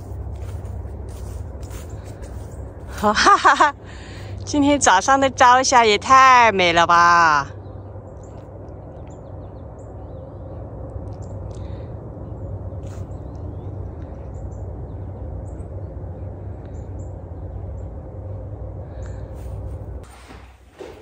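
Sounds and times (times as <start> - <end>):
birds chirping: 0.0 - 19.9
steady low rumble: 0.0 - 21.0.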